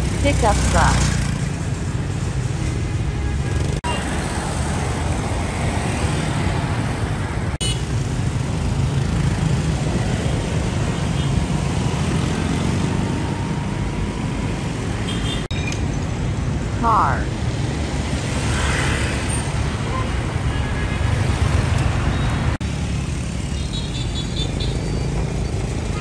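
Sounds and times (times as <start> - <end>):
vehicles passing close by: 0.0 - 26.0.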